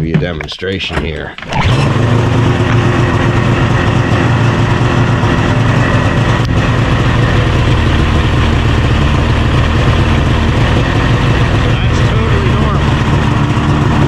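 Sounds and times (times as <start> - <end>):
snowmobile engine idling: 1.7 - 14.0.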